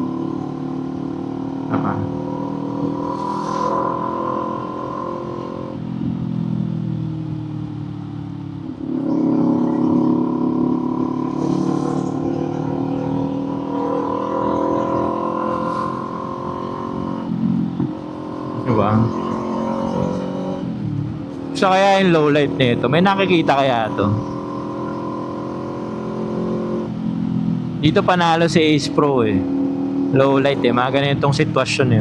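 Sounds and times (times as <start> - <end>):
motorcycle engine while riding: 0.0 - 32.0.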